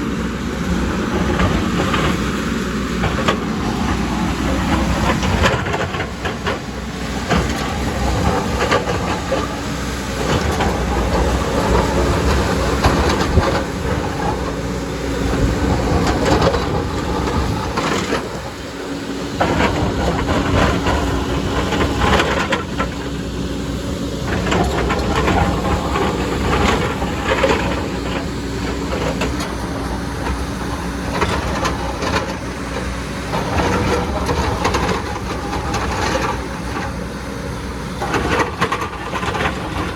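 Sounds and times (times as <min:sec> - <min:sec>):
excavator diesel engine: 0:00.0 - 0:39.9
steady engine hum: 0:00.0 - 0:39.9.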